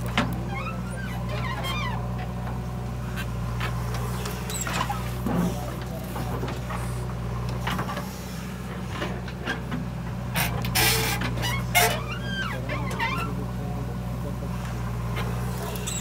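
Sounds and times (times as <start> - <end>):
backhoe arm creaks and clanks: 0.0 - 13.6, 15.0 - 16.0
diesel engine under load: 0.0 - 16.0.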